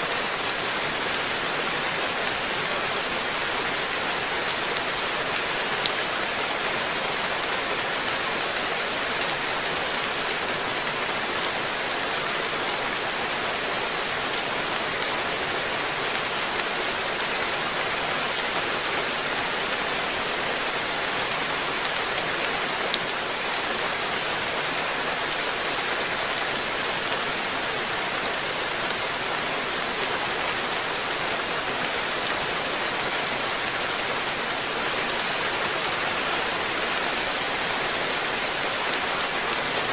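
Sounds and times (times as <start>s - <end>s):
rain falling on pond: 0.0s - 39.9s.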